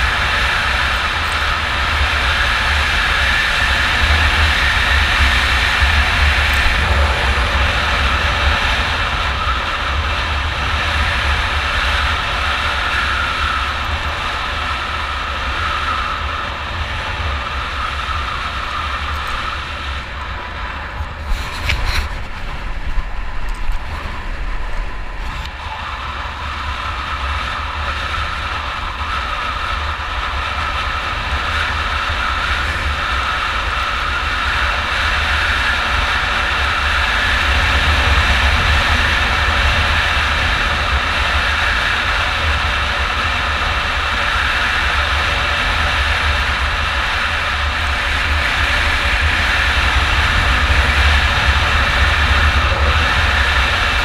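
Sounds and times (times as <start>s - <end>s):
dirt bike engine running: 0.0s - 54.0s
wind rumble on microphone: 0.0s - 54.0s.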